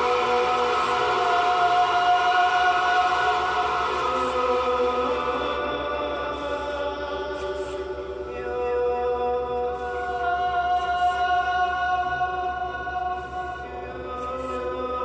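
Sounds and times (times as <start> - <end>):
ambient electronic drone: 0.0 - 15.0.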